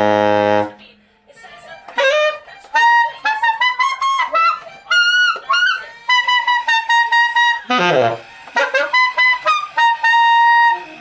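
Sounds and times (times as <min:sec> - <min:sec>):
tenor saxophone high notes: 0:00.0 - 0:00.8, 0:01.9 - 0:11.0.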